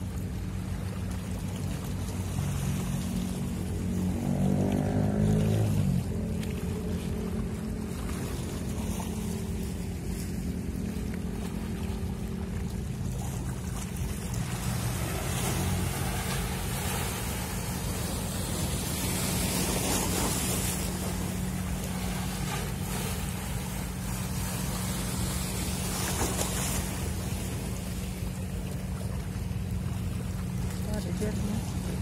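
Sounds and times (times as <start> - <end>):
boat engine humming: 0.0 - 32.0
wind and water rushing: 0.0 - 32.0.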